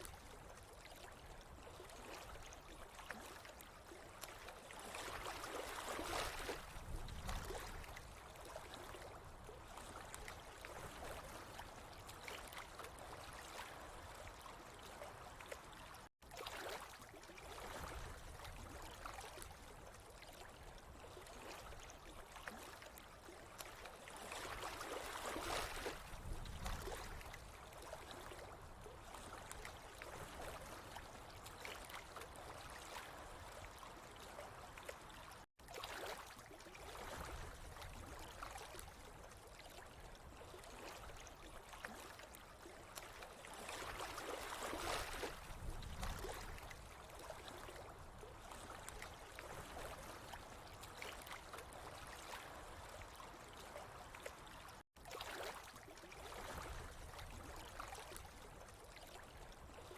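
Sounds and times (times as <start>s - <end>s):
water trickling and gurgling: 0.0s - 59.9s.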